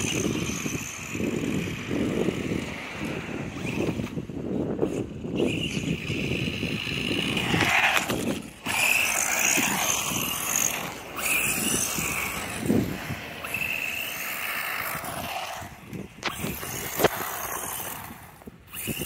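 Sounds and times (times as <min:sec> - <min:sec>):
toy truck motor whining: 0:00.0 - 0:19.0
tyres rushing on asphalt: 0:00.0 - 0:19.0.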